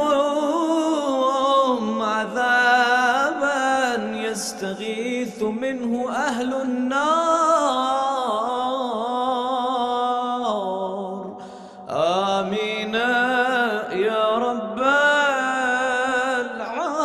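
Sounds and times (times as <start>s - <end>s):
melodic vocal chanting: 0.0s - 17.0s.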